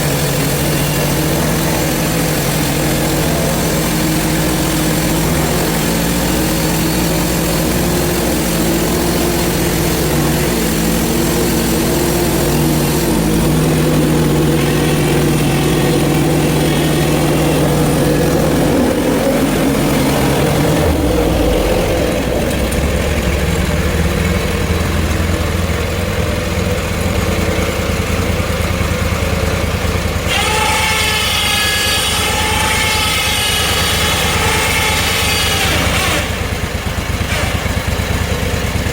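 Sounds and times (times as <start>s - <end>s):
high whine: 0.0s - 36.4s
bandsaw gas engine running: 0.0s - 38.9s.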